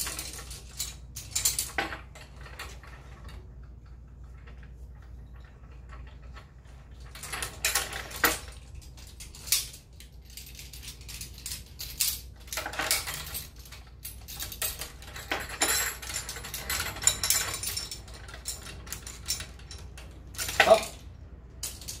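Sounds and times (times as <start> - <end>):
metal carabiners clinking: 0.0 - 3.4, 4.3 - 22.0
metal hardware clatter: 0.0 - 3.4, 4.3 - 22.0.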